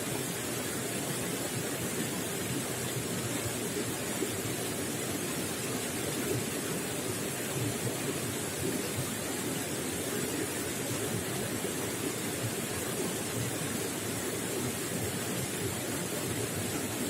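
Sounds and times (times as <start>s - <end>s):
running water gurgling: 0.0s - 17.0s.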